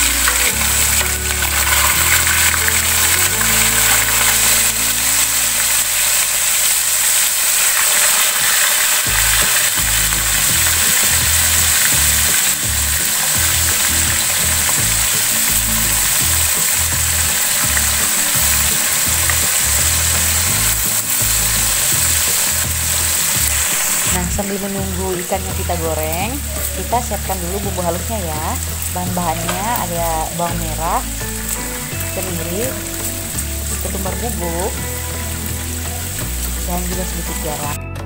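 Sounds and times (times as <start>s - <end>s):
fish sizzling in hot oil: 0.0s - 37.8s
background music: 0.0s - 38.0s.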